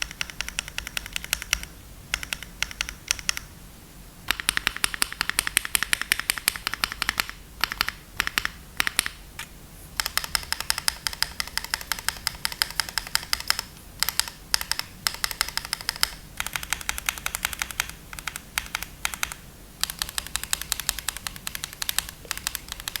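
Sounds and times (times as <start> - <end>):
fast typing on mechanical keyboard: 0.0 - 3.5, 4.3 - 9.2, 10.0 - 23.0.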